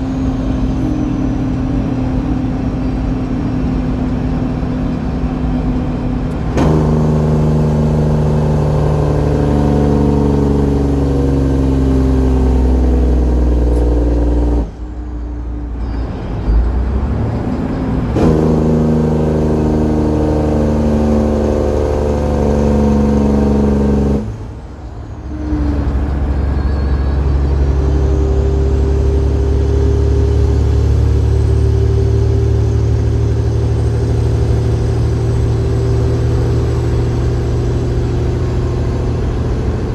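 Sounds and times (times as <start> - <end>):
engine revving: 0.0 - 15.0, 16.4 - 39.9
diesel truck engine pulling hard: 0.0 - 39.9.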